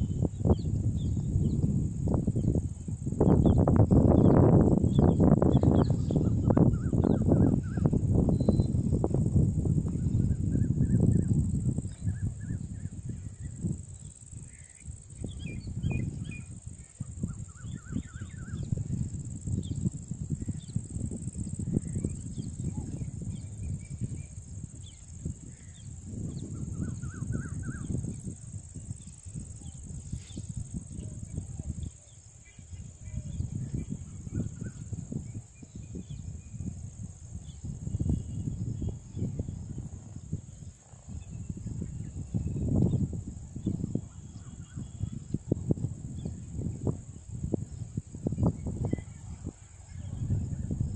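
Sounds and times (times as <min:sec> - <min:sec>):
insects droning: 0:00.0 - 0:50.9
wind gusting on microphone: 0:00.0 - 0:50.9.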